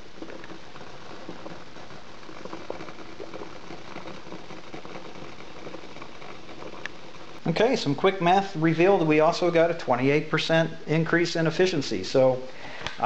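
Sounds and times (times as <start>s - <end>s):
coffee percolator bubbling: 0.0s - 13.0s.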